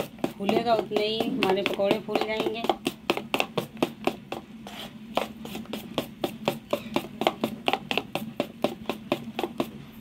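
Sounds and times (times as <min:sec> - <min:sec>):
whisk tapping steel bowl: 0:00.0 - 0:09.8.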